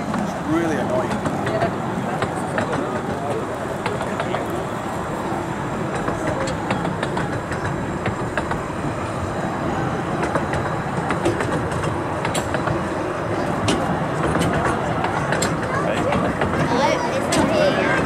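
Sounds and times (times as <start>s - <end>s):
sharp rail clicks: 0.0s - 18.0s
train wheels rumbling on rail: 0.0s - 18.0s.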